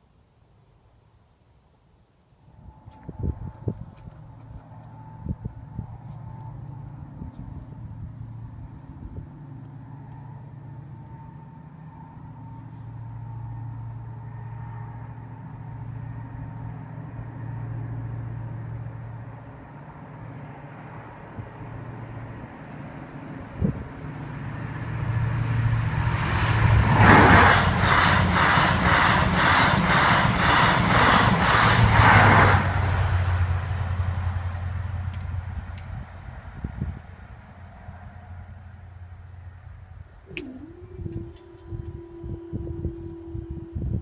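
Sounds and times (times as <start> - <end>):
train passing: 2.4 - 44.0
wheels rattling on rail: 3.0 - 40.8.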